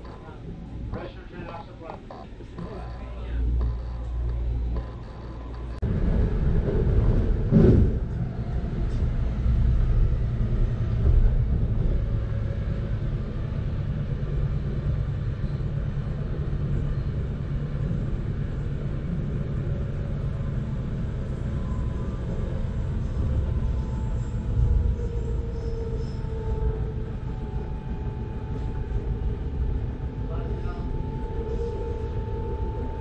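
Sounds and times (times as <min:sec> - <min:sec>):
train car rumble from inside: 0:00.0 - 0:33.0.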